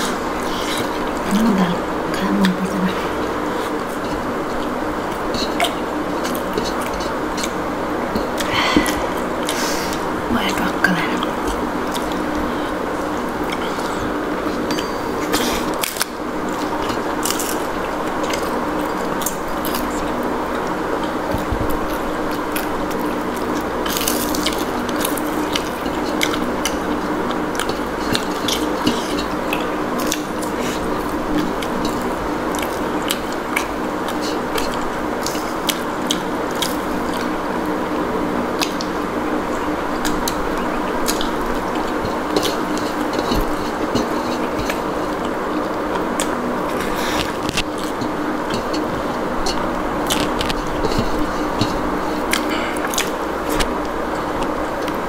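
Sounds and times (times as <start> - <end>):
person chewing: 0.0 - 1.5, 2.4 - 10.3, 11.2 - 37.8, 38.6 - 55.0
steady hum: 0.0 - 55.0.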